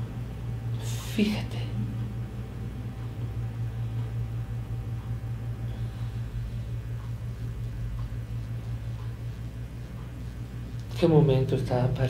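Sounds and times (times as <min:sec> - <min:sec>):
low hum of room tone: 0:00.0 - 0:12.0.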